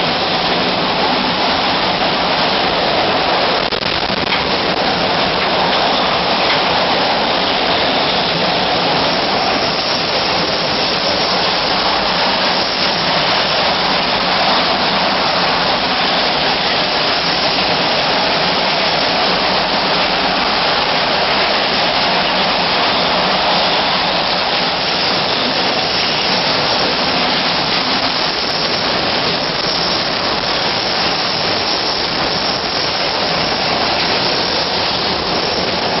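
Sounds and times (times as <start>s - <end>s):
driving rain: 0.0s - 36.0s
strong wind: 0.0s - 36.0s.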